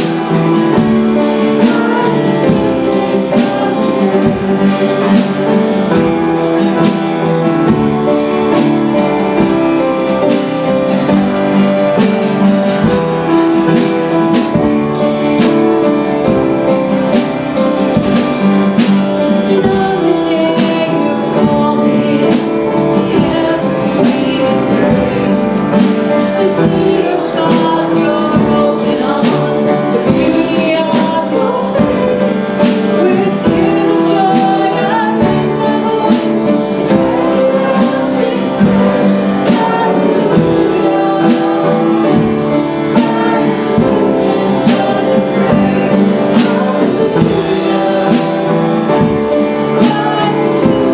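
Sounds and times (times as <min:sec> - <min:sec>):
drum kit beat: 0:00.0 - 0:50.9
guitar: 0:00.0 - 0:50.9
voices singing: 0:00.0 - 0:50.9.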